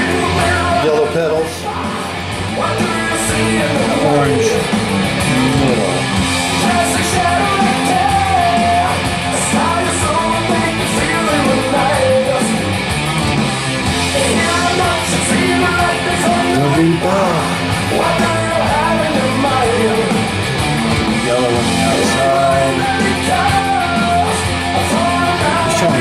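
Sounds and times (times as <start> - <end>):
rock music with singing: 0.0 - 26.0.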